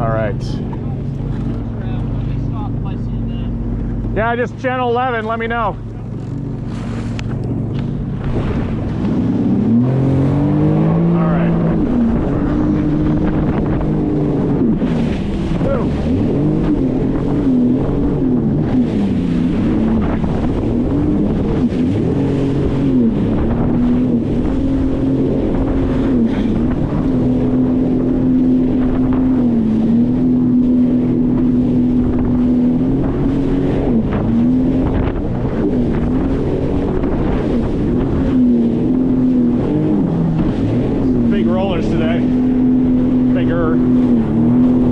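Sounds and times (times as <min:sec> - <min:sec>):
personal watercraft engine running: 0:00.0 - 0:44.9
wind on microphone: 0:03.6 - 0:44.9.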